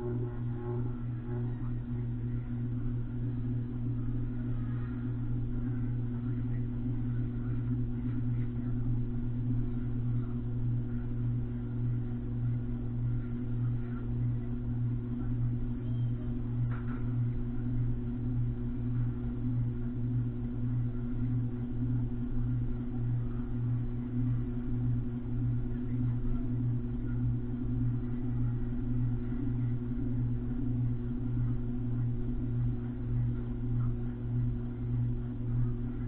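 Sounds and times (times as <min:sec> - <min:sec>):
ceiling fan motor hum: 0:00.0 - 0:36.0.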